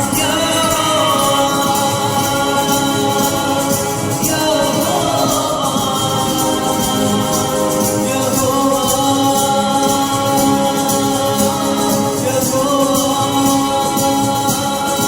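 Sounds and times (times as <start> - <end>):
people singing worship song: 0.0 - 15.0
tambourine beat: 0.0 - 15.0.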